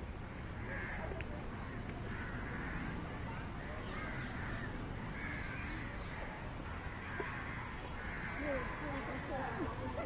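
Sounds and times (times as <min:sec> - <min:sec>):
crows cawing: 0:00.6 - 0:03.0, 0:03.8 - 0:09.6.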